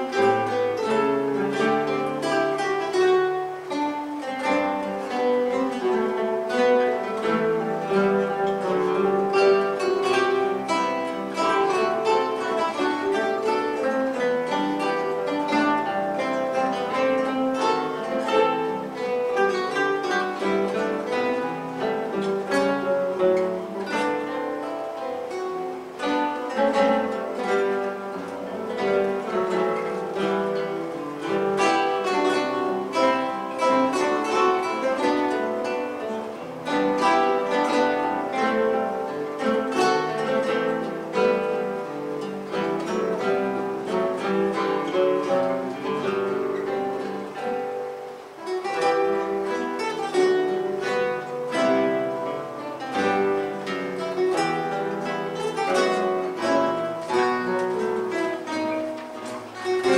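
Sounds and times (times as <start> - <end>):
classical guitars playing: 0.0 - 59.9.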